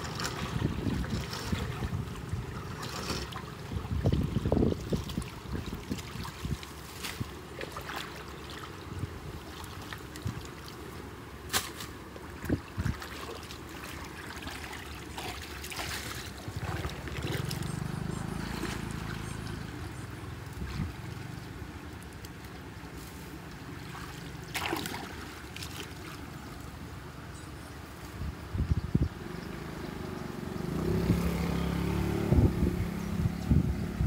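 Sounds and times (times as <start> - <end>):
muddy water swirling at gate: 0.0 - 28.2.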